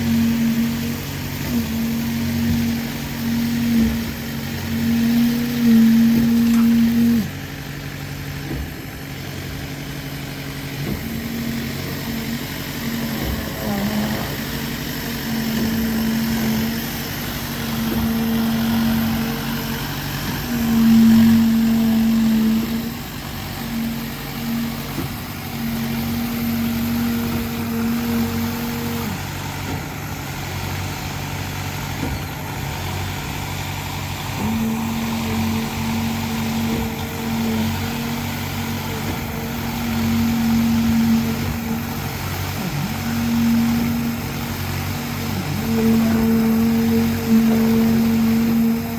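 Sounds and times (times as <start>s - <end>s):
construction machinery engine running: 0.0s - 48.9s.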